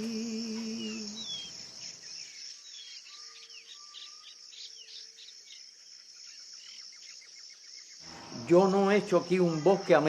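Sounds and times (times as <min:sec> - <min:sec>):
bird chirps: 0:00.0 - 0:10.0
crickets droning: 0:00.0 - 0:10.0.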